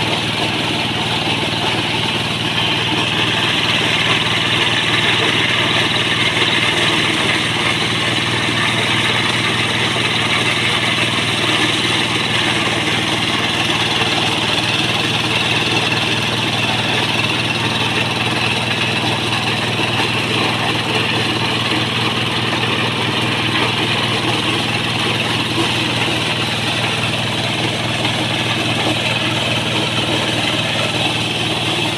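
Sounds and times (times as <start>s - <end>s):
corn threshing noise: 0.0s - 31.9s
diesel engine running: 0.0s - 31.9s.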